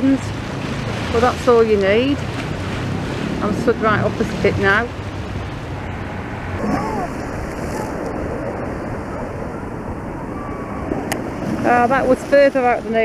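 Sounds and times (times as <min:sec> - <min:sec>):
small waves washing onto beach: 0:00.0 - 0:13.0
wind rumbling on microphone: 0:00.0 - 0:13.0.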